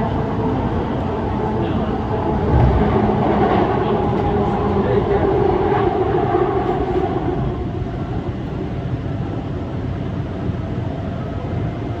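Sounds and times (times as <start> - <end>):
subway train running: 0.0 - 12.0
train whine: 0.0 - 12.0.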